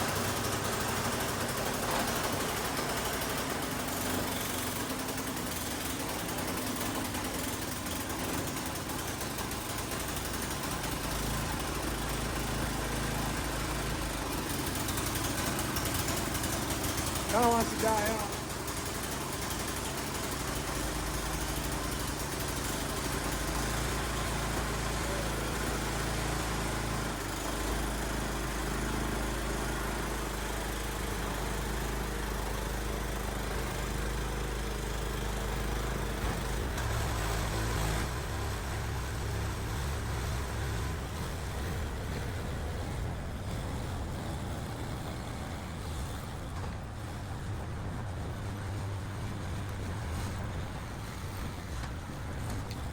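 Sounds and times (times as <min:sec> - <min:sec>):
small gasoline engine running: 0:00.0 - 0:52.9.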